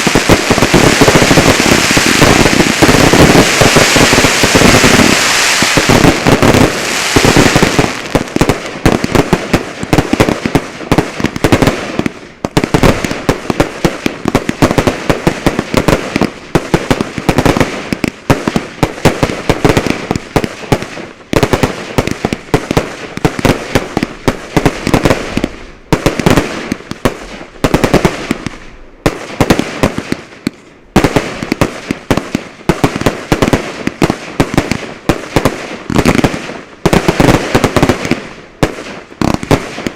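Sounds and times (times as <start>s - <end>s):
fireworks barrage of bangs: 0.0s - 39.9s.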